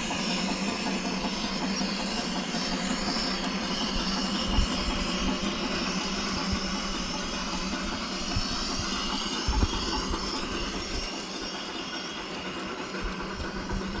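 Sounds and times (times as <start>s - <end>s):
hissing model train sound: 0.0s - 14.0s.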